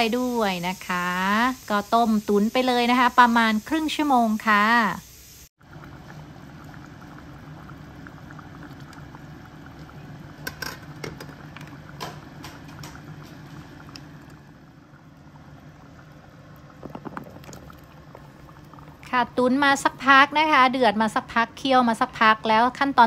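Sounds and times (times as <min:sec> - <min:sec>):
curry bubbling in saucepan: 0:00.0 - 0:23.0.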